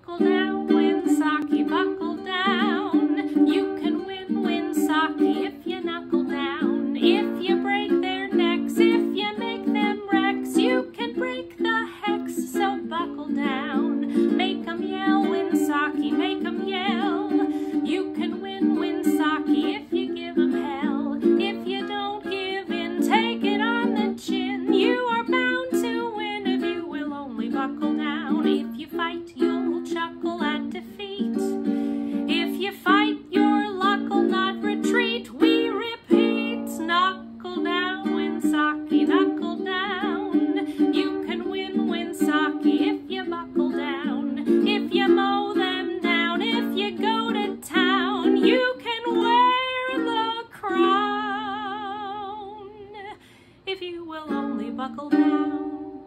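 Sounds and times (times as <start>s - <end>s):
ukulele strumming: 0.0s - 56.0s
woman singing: 0.0s - 56.0s.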